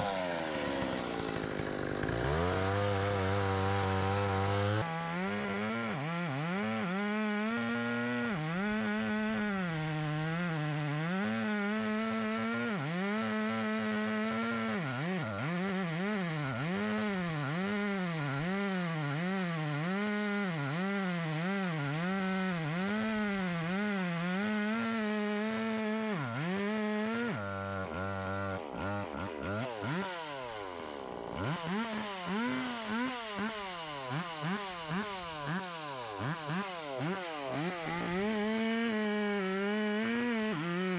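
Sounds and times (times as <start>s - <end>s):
chainsaw cutting tree: 0.0s - 40.9s.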